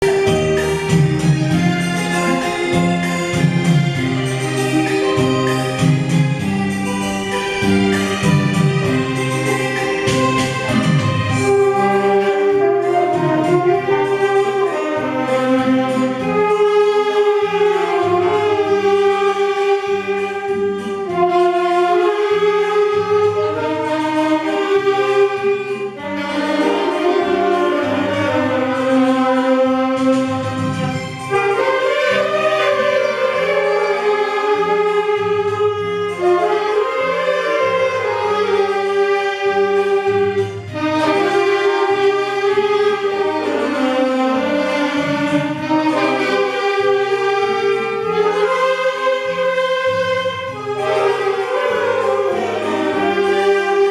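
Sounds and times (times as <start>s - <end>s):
saxophone ensemble playing: 0.0s - 53.9s.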